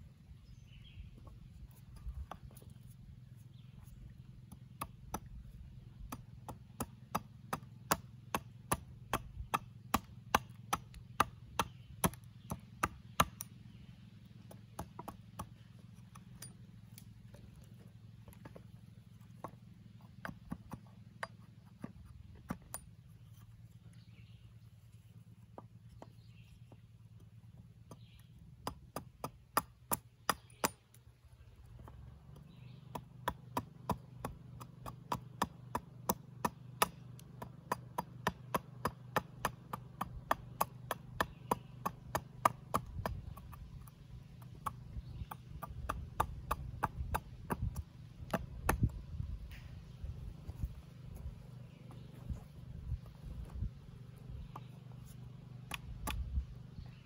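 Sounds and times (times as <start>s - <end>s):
hatchet chopping wood: 1.2s - 2.7s, 4.2s - 24.3s, 25.4s - 31.0s, 31.6s - 57.0s.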